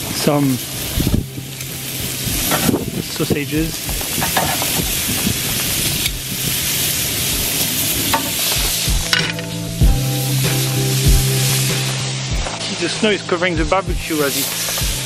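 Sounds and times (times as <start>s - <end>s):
low music tones: 0.0s - 15.0s
sausages sizzling on a grill: 0.0s - 15.0s.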